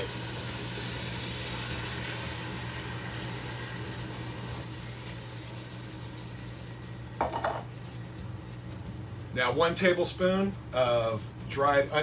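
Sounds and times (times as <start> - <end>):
pot sizzling: 0.0 - 12.0.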